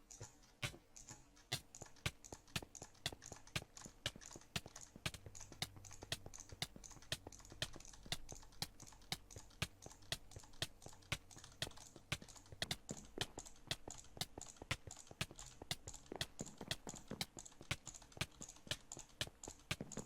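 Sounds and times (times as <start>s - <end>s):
sharp dry clicks: 0.0s - 20.0s.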